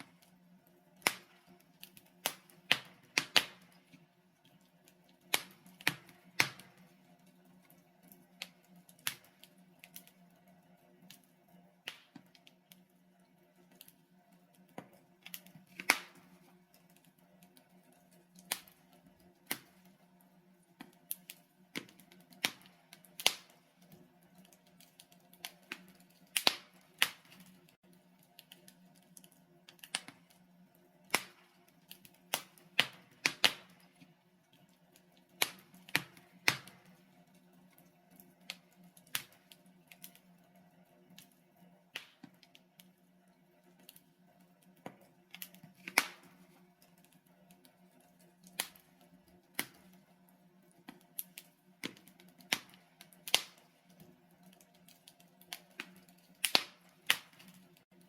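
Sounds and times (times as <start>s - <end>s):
logs crackling in a fireplace: 0.0s - 58.0s.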